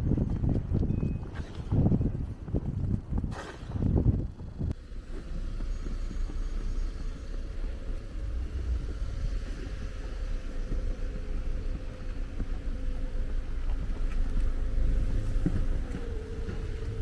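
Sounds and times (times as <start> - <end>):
engine-like hum: 0.0 - 17.0
street traffic rumble: 0.0 - 17.0.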